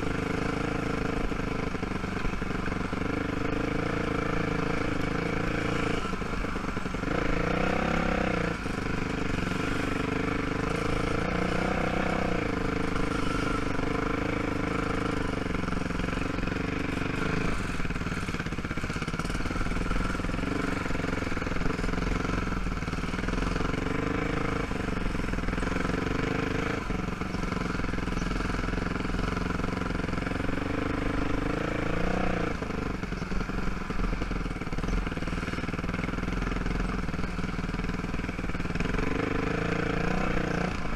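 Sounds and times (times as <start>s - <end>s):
quad engine revving: 0.0s - 40.9s.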